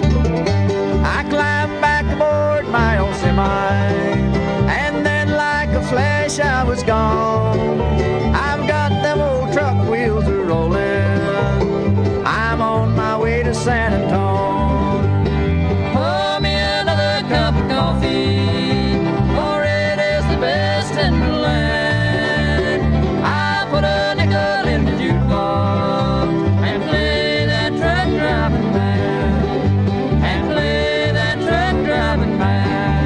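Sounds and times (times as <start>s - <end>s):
acoustic guitar: 0.0s - 33.0s
banjo: 0.0s - 33.0s
bass line: 0.0s - 33.0s
fiddle: 0.0s - 33.0s
mandolin: 0.0s - 33.0s.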